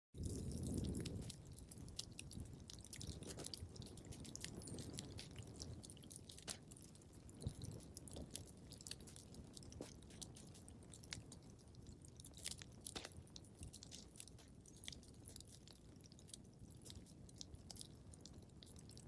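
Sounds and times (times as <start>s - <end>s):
wood fire crackling: 0.2s - 19.0s.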